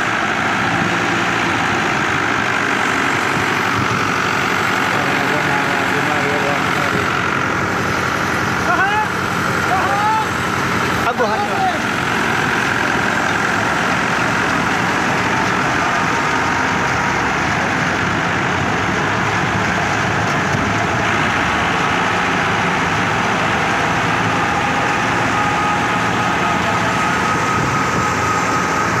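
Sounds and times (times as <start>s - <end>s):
thresher humming: 0.0s - 29.0s
tractor diesel engine running: 0.0s - 29.0s.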